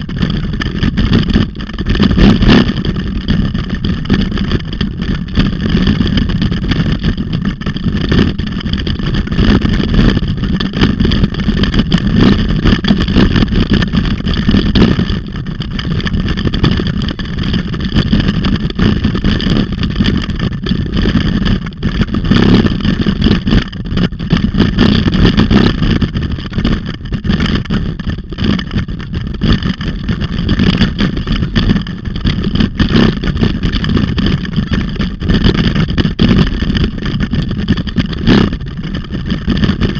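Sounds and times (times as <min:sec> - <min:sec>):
bicycle rolling noise: 0:00.0 - 0:39.9.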